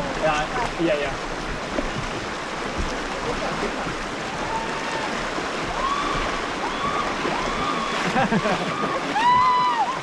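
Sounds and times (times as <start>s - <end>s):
river water rushing and splashing: 0.0s - 10.0s.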